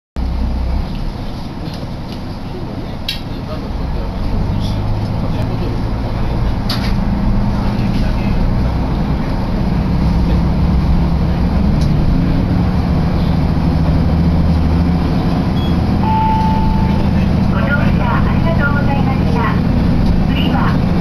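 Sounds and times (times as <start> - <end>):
rail rumble: 0.2 - 21.0
railcar engine hum: 0.2 - 21.0.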